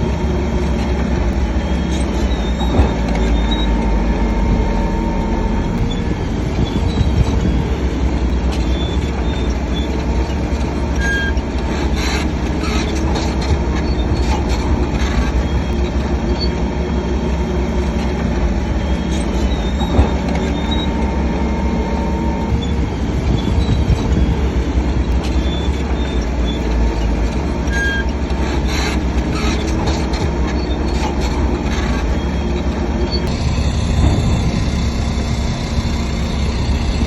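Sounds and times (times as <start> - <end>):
bulldozer diesel rumble: 0.0 - 37.0
steel tracks squealing and clanking: 0.0 - 37.0.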